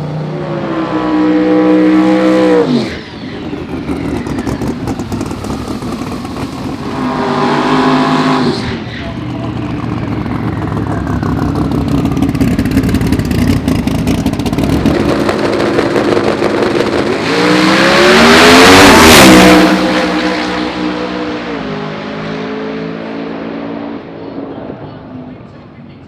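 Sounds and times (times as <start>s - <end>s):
drag racing car engine revving: 0.0s - 25.9s.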